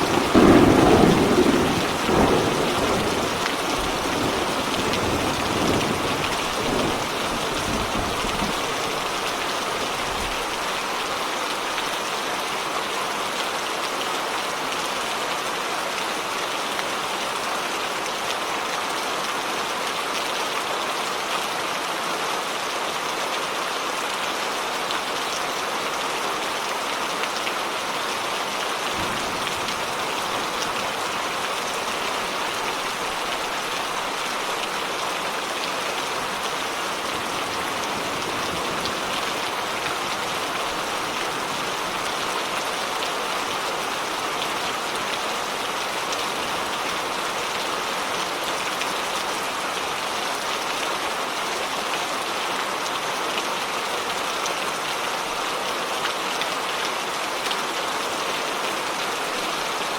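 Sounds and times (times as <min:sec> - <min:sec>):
rain pattering: 0:00.0 - 0:22.0, 0:22.7 - 0:59.9.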